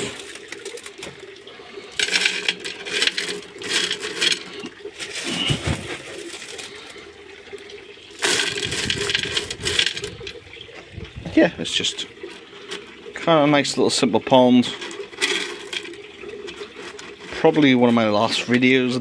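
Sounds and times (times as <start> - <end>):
gravel poured into clay pot: 0.0 - 18.7.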